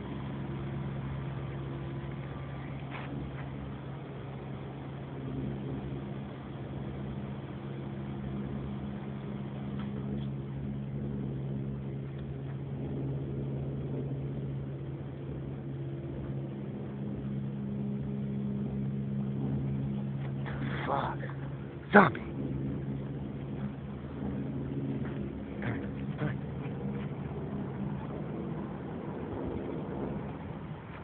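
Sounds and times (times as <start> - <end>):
low mechanical droning hum: 0.0 - 31.0.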